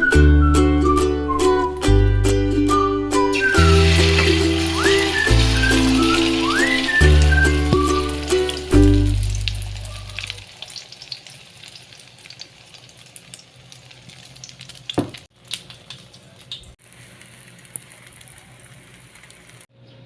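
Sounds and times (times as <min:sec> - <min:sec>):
egg sizzling in a pan: 0:03.4 - 0:19.7.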